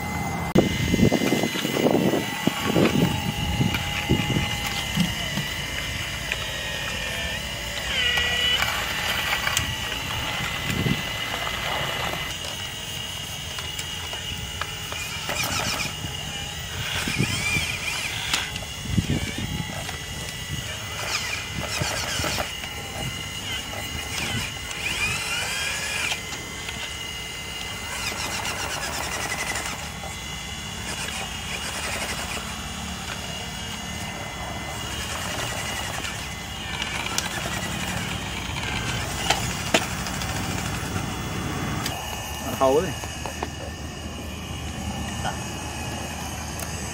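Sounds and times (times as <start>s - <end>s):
hydraulic pump whine: 0.0s - 46.9s
motor whines rising and falling: 0.0s - 46.9s.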